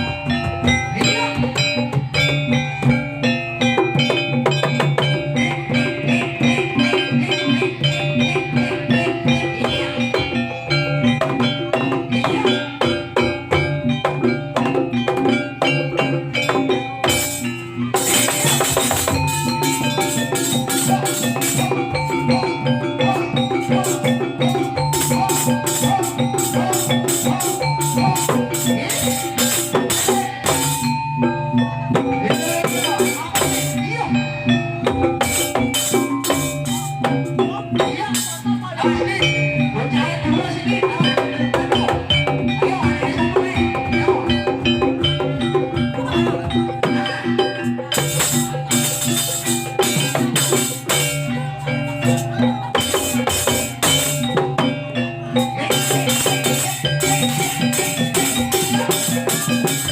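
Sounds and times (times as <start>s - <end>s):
drums and metal percussion music: 0.0s - 59.9s.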